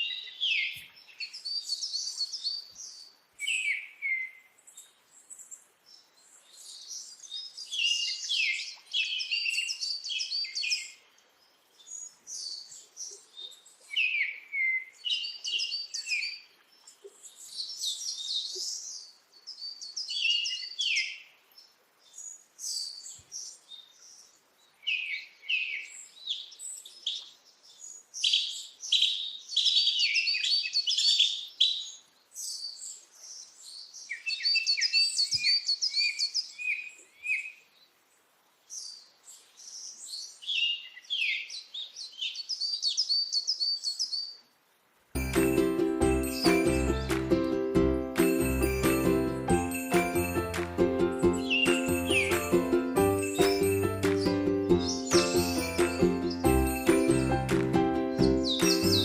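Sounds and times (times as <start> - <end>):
small birds chirping: 0.0 - 44.6, 45.2 - 59.0.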